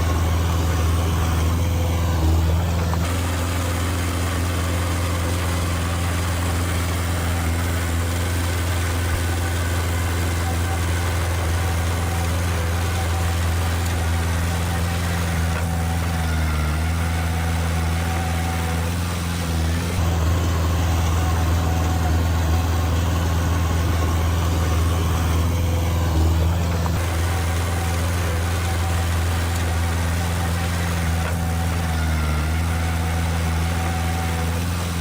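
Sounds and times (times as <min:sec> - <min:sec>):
heavy diesel machinery running: 0:00.0 - 0:35.0.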